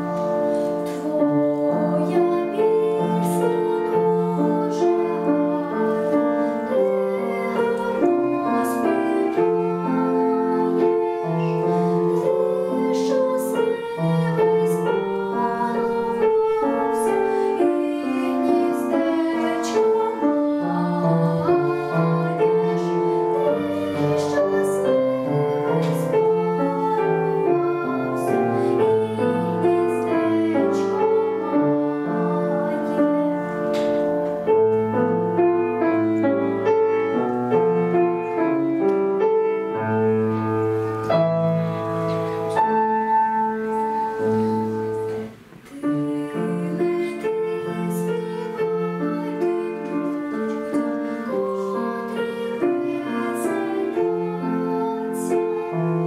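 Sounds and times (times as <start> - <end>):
girl singing folk song: 0.0 - 36.3, 40.3 - 56.0
grand piano: 0.0 - 56.0.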